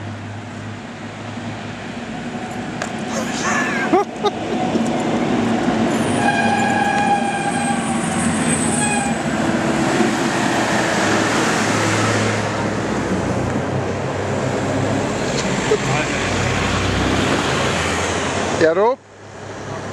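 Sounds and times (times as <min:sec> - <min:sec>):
tractor engine and tyres: 0:00.0 - 0:19.9.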